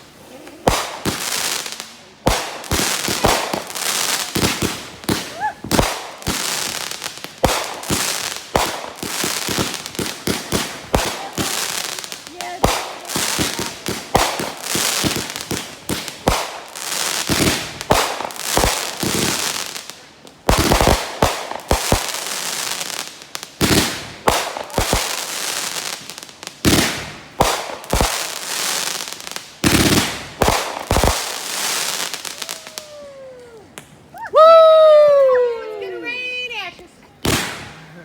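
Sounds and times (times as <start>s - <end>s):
fireworks crackling: 0.0s - 38.0s
fireworks booming: 0.6s - 33.9s, 37.2s - 38.0s.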